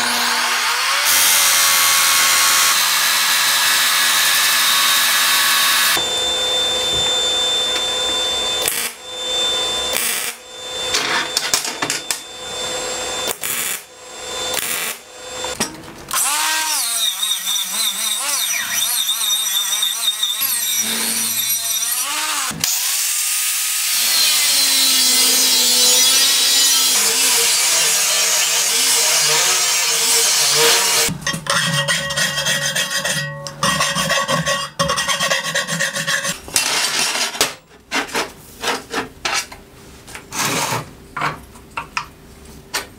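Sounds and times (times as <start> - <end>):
angle grinder grinding steel: 0.0 - 37.0.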